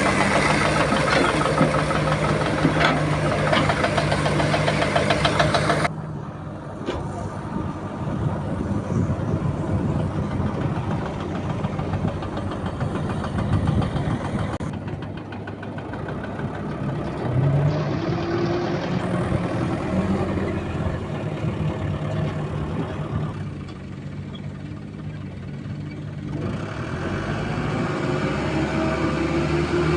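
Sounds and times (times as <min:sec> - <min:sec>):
heavy machinery diesel engine: 0:00.0 - 0:29.9.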